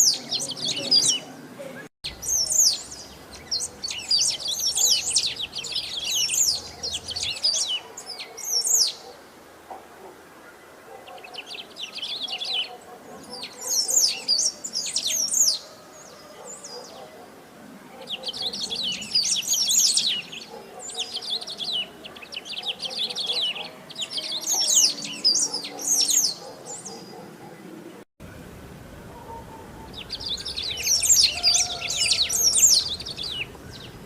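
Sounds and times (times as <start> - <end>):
finch singing: 0.0 - 9.2, 10.9 - 15.7, 18.0 - 27.8, 29.2 - 34.0.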